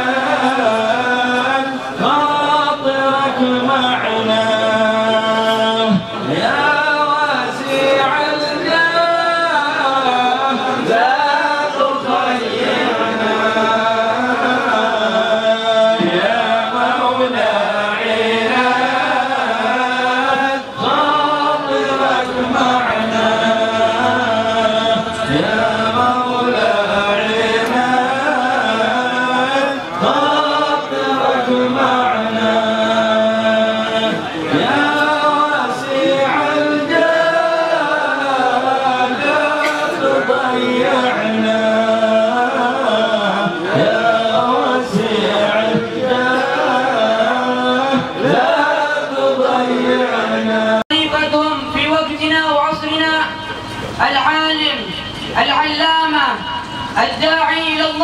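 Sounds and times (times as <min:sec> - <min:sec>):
men chanting devotional song: 0:00.0 - 0:58.0.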